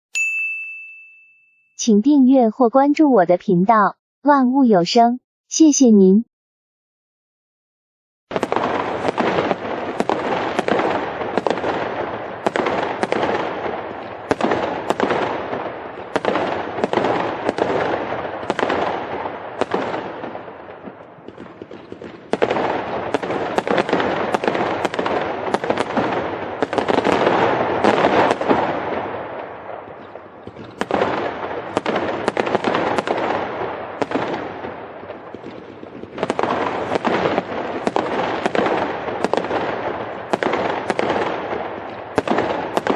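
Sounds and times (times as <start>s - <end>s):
fireworks crackling and banging: 8.3s - 42.9s.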